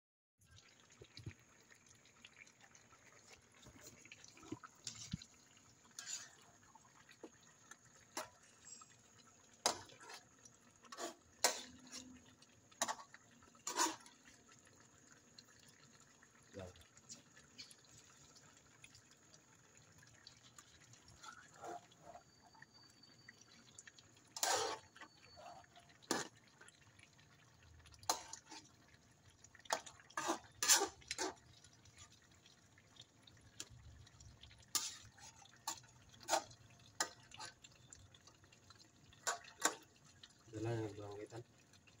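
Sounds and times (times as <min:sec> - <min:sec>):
sauce simmering with wet pops: 0:00.4 - 0:42.0.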